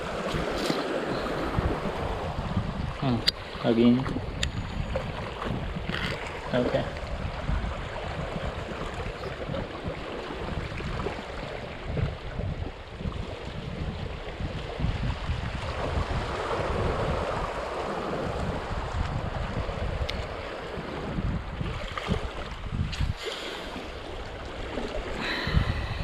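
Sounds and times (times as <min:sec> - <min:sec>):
sea waves washing on shore: 0:00.0 - 0:26.0
wind buffeting microphone: 0:00.0 - 0:26.0.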